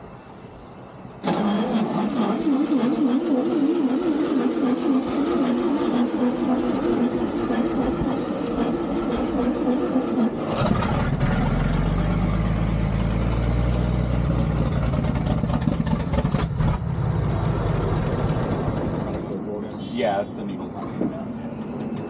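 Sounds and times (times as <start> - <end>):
fire truck engine running: 0.0 - 19.9.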